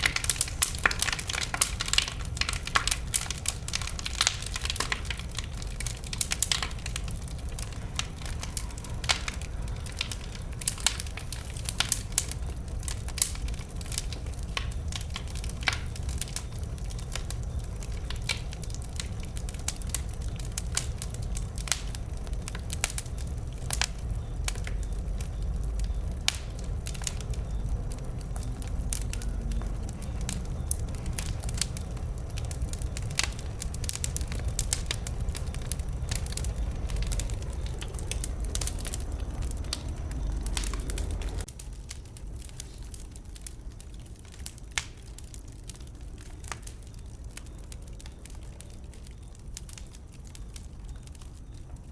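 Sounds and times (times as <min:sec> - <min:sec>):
low rumble of flames: 0:00.0 - 0:51.9
wood fire crackling: 0:00.0 - 0:51.9.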